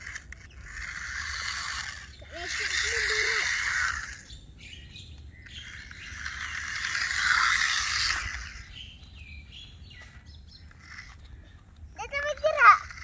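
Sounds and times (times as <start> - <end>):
toy car motor whirring: 0.0 - 13.0.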